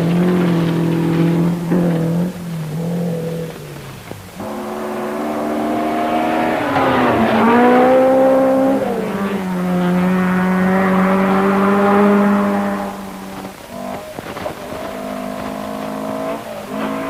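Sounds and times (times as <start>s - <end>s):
rally car engine running hard: 0.0s - 17.0s.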